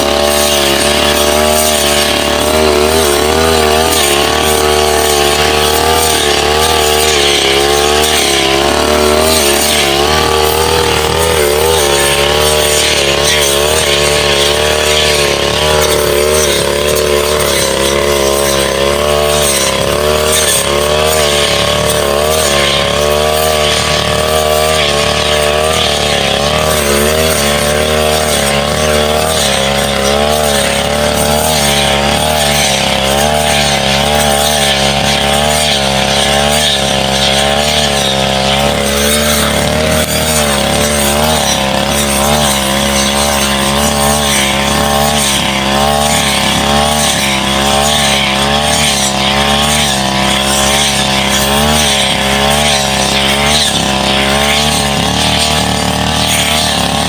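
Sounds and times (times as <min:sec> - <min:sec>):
brush cutter engine cutting wood: 0:00.0 - 0:57.0.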